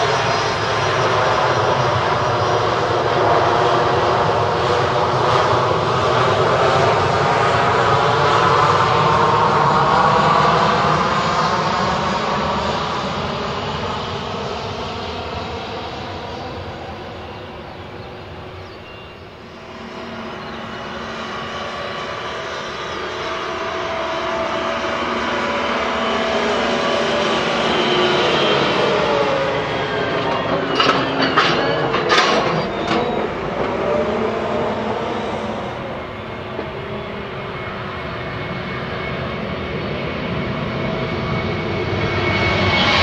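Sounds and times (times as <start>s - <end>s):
jet engines whining hum: 0.0s - 43.0s.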